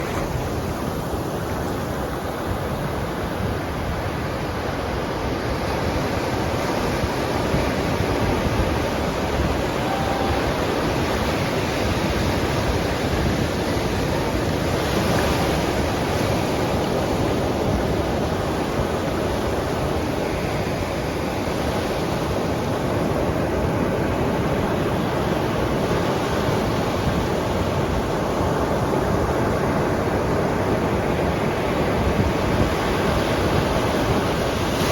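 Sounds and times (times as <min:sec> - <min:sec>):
ocean waves washing: 0:00.0 - 0:34.9.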